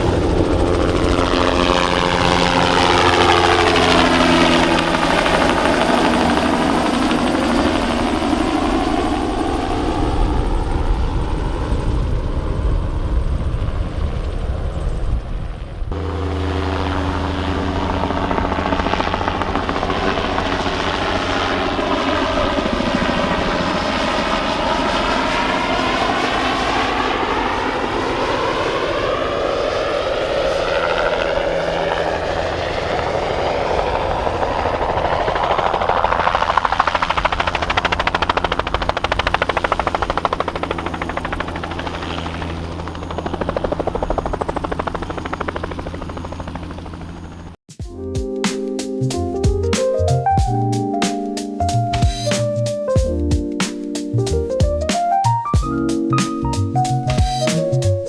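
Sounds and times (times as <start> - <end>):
helicopter rotor beat: 0.0 - 58.0
helicopter turbine whine: 0.0 - 58.0.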